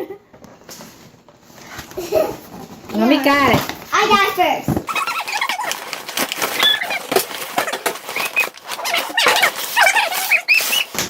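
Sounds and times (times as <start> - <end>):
plastic packaging crinkling: 1.5 - 11.0
plastic squeaks: 1.9 - 11.0.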